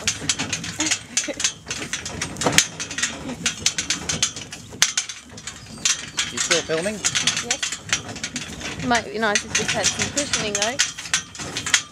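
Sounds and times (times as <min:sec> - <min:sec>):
horse-drawn cart rattling: 0:00.0 - 0:11.9.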